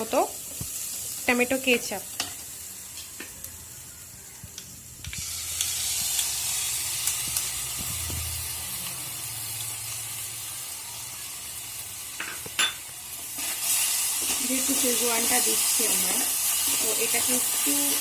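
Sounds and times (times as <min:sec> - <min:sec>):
sauce sizzling in a hot pan: 0:00.0 - 0:18.0.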